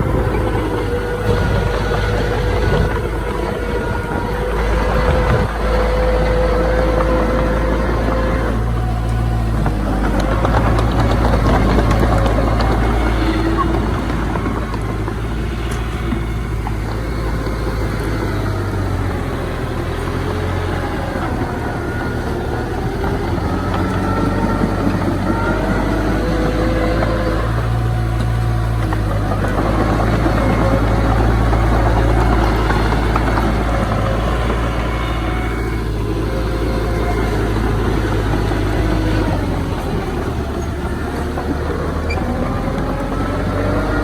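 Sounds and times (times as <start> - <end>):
diesel engine drone: 0.0 - 44.0
thin wavering whines: 0.0 - 44.0.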